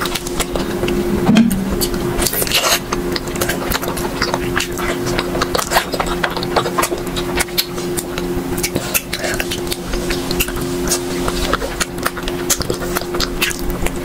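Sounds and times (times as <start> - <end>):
steady low hum: 0.0 - 14.0
wet chewing and lip smacks: 1.8 - 14.0.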